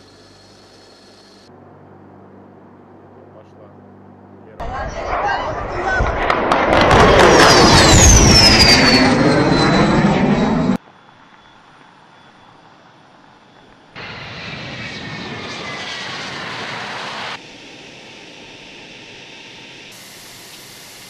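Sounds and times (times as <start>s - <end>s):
bomber engines on runway: 0.0s - 10.8s, 11.4s - 21.0s
bomber engine whine overhead: 0.0s - 21.0s
distant engine noise: 0.0s - 21.0s.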